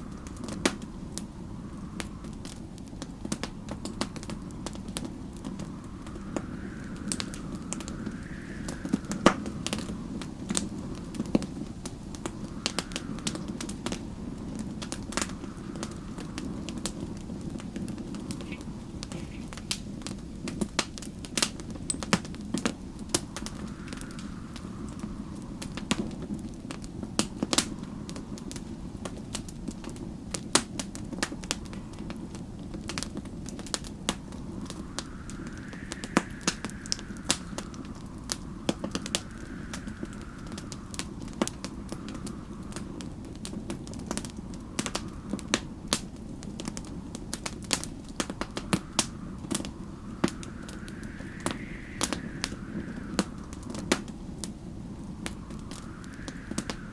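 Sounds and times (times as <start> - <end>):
whistling storm wind: 0.0 - 56.9
wood fire crackling and popping: 0.0 - 56.9.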